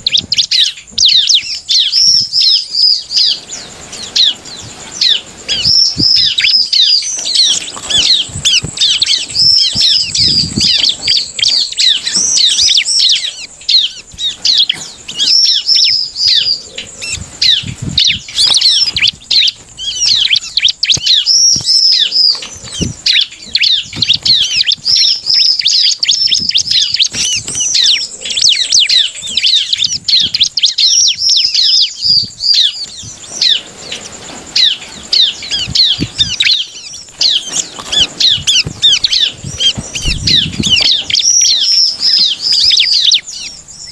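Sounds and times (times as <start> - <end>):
bird chirping song: 0.0 - 43.9
wings fluttering in cage: 2.7 - 30.4, 32.0 - 43.2.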